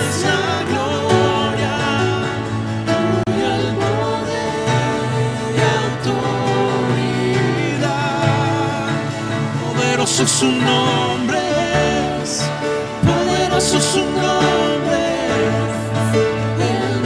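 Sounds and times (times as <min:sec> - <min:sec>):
keyboard playing: 0:00.0 - 0:17.0
voices singing together: 0:00.0 - 0:17.0.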